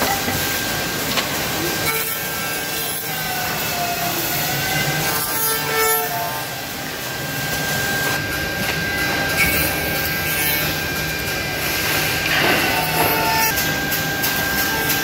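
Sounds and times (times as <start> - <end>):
milling machine cutting wood: 1.8 - 15.0.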